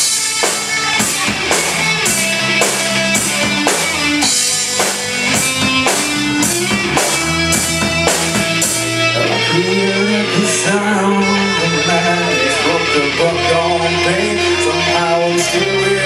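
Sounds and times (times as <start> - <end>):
drums: 0.0 - 16.0
electric guitar: 0.0 - 16.0.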